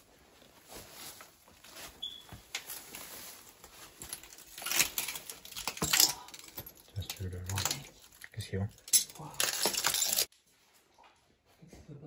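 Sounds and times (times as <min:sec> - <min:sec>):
rustling and crunching: 0:00.0 - 0:10.8.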